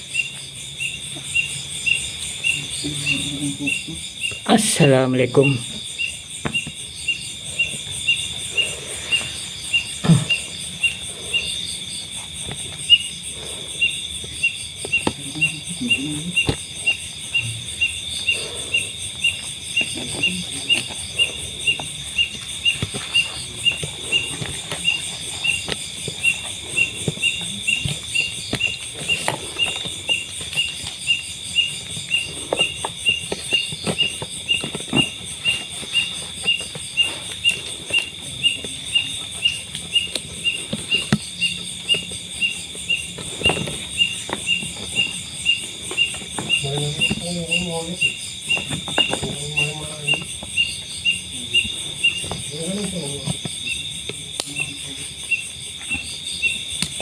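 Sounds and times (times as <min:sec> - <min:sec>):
cricket-like chirp: 0:00.0 - 0:57.0
insects droning: 0:00.0 - 0:57.0.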